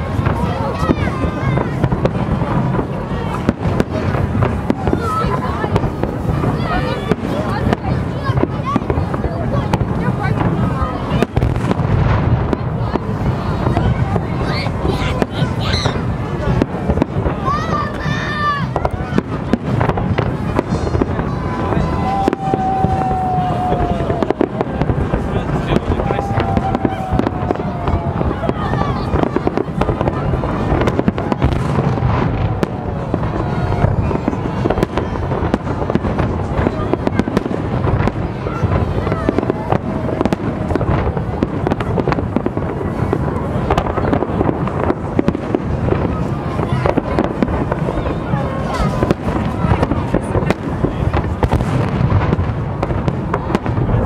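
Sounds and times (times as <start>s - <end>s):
fireworks bangs and crackle: 0.0s - 54.0s.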